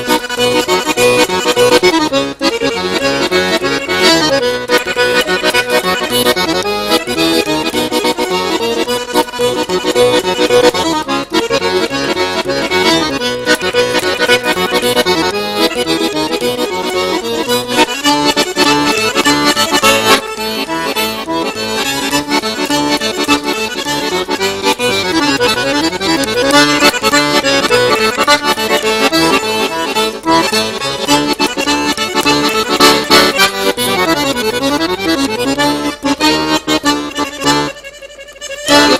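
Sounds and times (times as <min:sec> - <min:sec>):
accordion music: 0:00.0 - 0:38.9.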